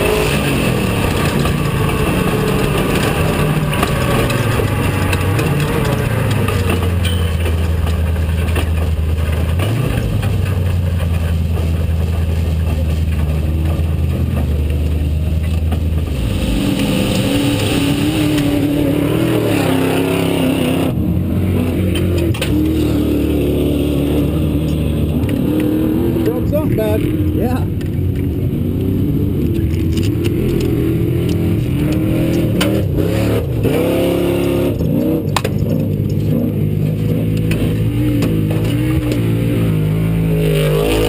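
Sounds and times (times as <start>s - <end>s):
truck engine running hard: 0.0s - 41.0s.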